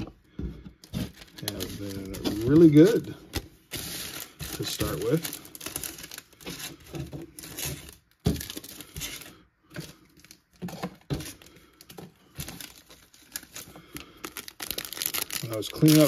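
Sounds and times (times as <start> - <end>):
foil wrapper crinkling: 0.8 - 16.0.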